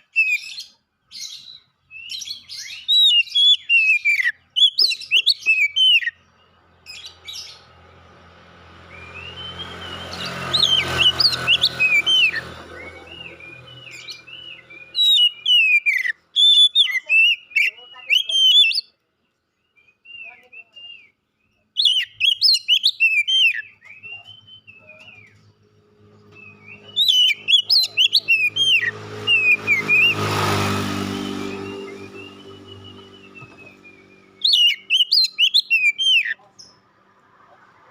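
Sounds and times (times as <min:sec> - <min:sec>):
bird singing whistled phrases: 0:00.0 - 0:06.3, 0:08.9 - 0:19.0, 0:19.6 - 0:25.5, 0:26.3 - 0:30.2, 0:31.1 - 0:36.4.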